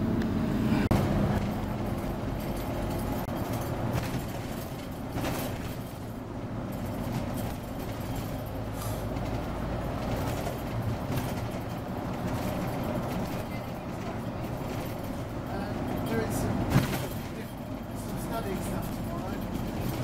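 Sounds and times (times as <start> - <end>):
bus engine drone: 0.0 - 20.0
road and body noise: 0.0 - 20.0.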